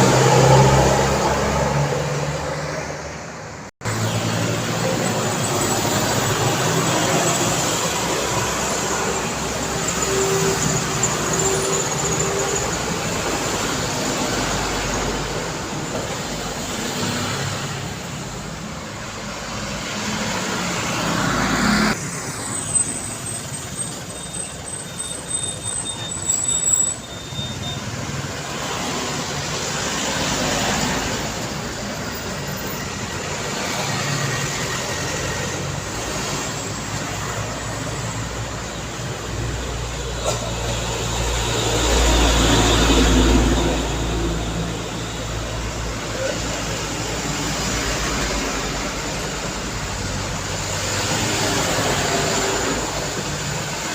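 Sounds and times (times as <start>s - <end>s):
cars and trucks passing: 0.0s - 53.9s.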